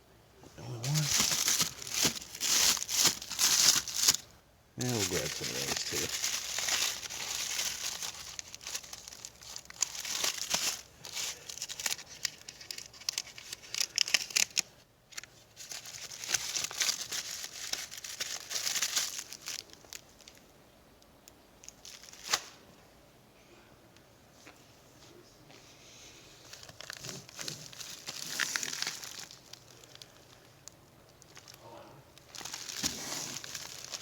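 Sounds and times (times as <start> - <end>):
plastic packaging crinkling: 0.6 - 20.5, 21.6 - 22.6, 26.4 - 31.6, 32.2 - 34.0.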